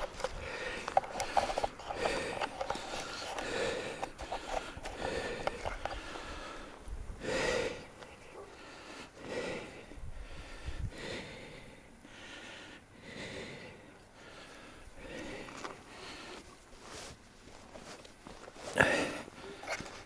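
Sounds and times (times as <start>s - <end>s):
person breathing heavily: 0.0s - 20.0s.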